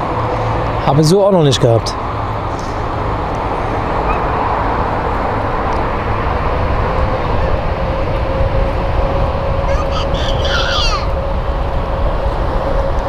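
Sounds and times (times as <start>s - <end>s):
jet airliners taxiing: 0.0s - 13.0s
jet engine whine: 0.0s - 13.0s.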